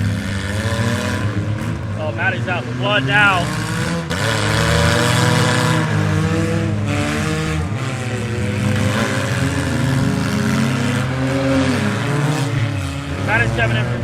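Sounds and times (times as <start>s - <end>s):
vehicle engines revving: 0.0s - 14.0s.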